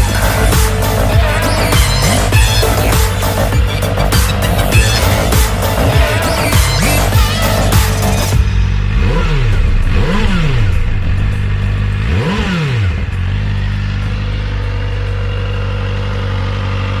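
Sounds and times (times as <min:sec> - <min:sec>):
engine revving: 0:00.0 - 0:17.0
motorcycle engine idling: 0:00.0 - 0:17.0.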